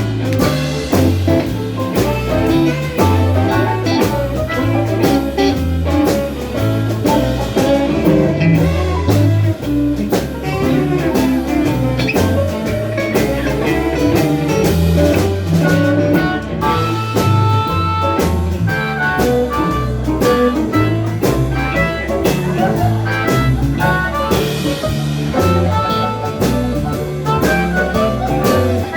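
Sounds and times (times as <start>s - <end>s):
drum kit: 0.0s - 28.9s
guitar: 0.0s - 28.9s
walking bass line: 0.0s - 28.9s.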